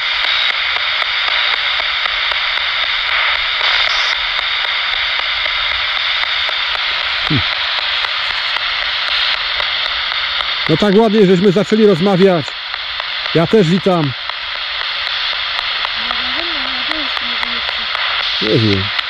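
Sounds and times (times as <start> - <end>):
faint regular clicks: 0.0 - 19.0
radio static hiss: 0.0 - 19.0.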